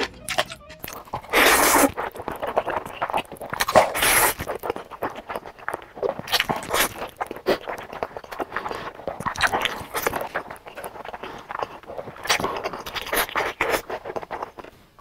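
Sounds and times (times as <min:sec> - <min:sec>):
wet chewing and lip-smacking: 0:00.0 - 0:15.0
loud noodle slurps: 0:00.9 - 0:14.6.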